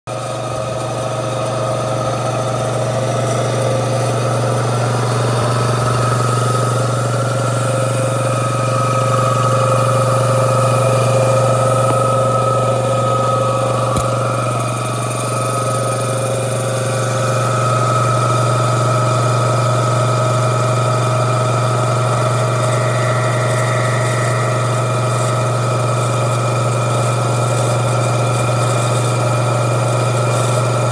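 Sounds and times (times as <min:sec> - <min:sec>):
air compressor running: 0:00.1 - 0:30.9.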